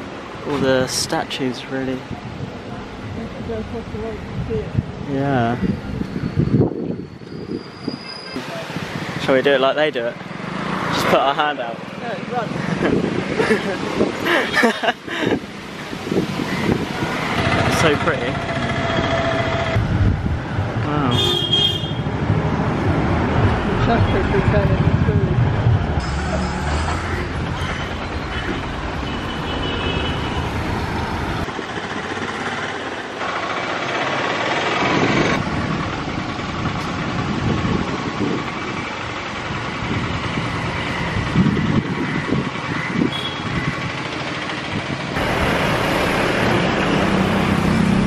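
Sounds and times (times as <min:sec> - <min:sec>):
street din: 0:00.0 - 0:48.0
vehicle engines and road noise: 0:00.0 - 0:48.0.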